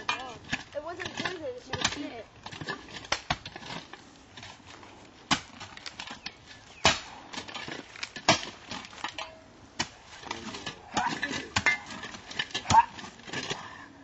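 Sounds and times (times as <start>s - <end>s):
digging tool striking rocky ground: 0.0s - 13.8s.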